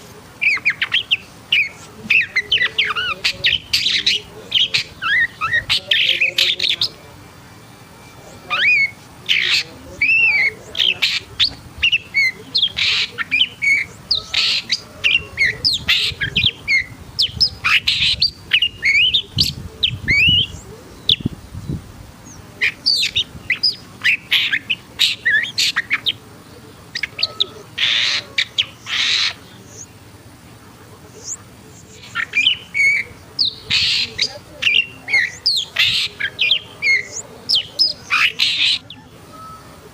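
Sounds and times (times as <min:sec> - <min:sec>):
bird singing whistles and chirps: 0:00.4 - 0:07.0, 0:08.1 - 0:26.2, 0:31.1 - 0:39.8.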